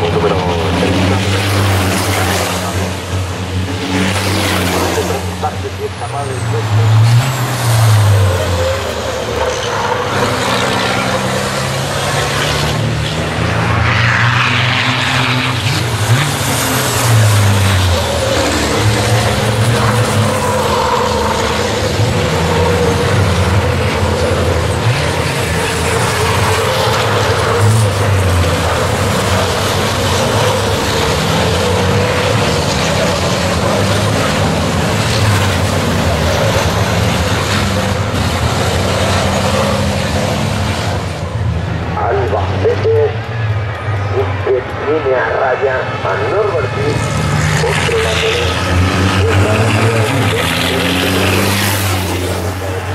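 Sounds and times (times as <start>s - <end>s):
diesel truck engines running hard: 0.0s - 52.9s.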